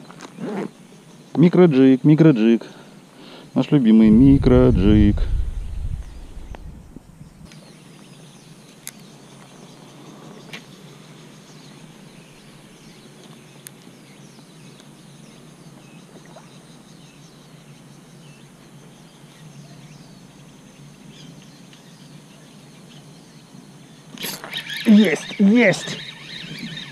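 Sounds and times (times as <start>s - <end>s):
outdoor background noise: 0.0s - 26.9s.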